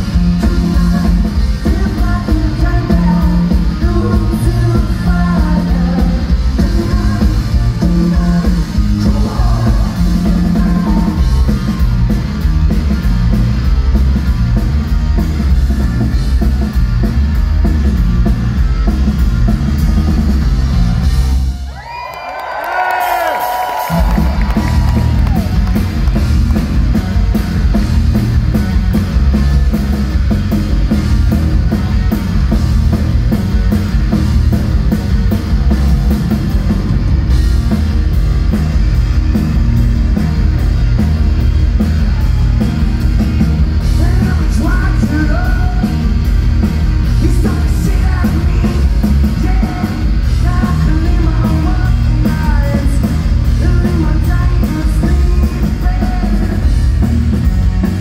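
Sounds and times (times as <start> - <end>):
electric bass: 0.0 - 21.8, 23.0 - 58.0
drum kit: 0.0 - 58.0
electric guitar: 0.0 - 58.0.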